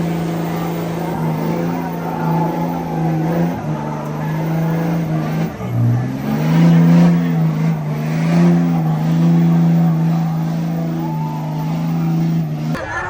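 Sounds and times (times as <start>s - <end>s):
truck engine revving high: 0.0s - 13.0s.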